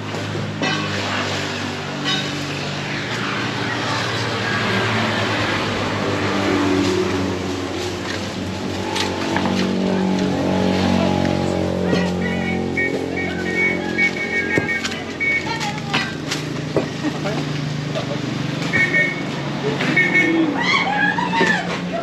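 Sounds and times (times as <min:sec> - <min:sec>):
engine passing: 0:00.0 - 0:22.0
vehicles on road: 0:00.0 - 0:22.0.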